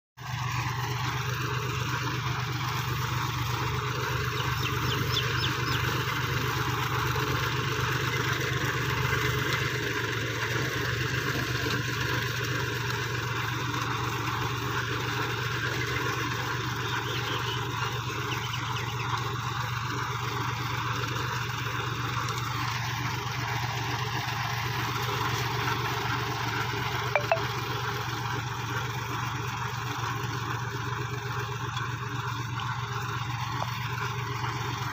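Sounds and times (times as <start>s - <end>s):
tractor engine running: 0.2s - 34.9s.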